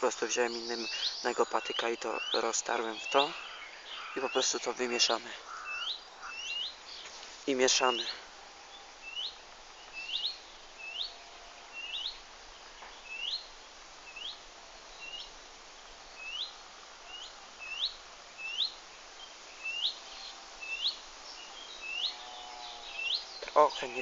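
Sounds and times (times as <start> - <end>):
bird chirping: 0.0 - 24.0.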